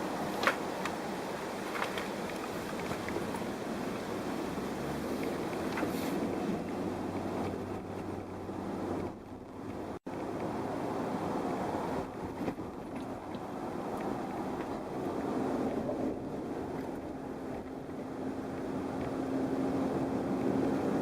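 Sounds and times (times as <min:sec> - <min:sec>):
road noise: 0:00.0 - 0:21.0
wind rushing into car cab: 0:00.0 - 0:21.0.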